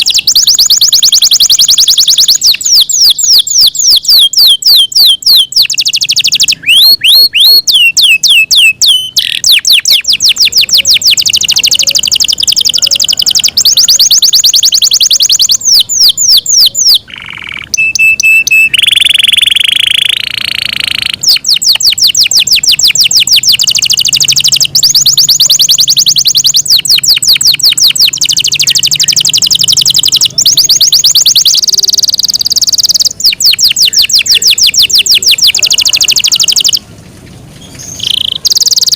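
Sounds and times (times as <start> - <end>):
canary singing: 0.0 - 36.9, 37.5 - 38.9.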